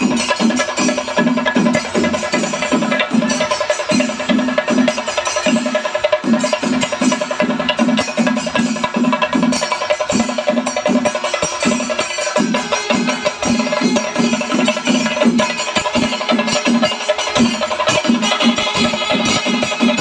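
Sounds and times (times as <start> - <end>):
cymbals: 0.0 - 20.0
sharp drum strokes: 0.0 - 20.0.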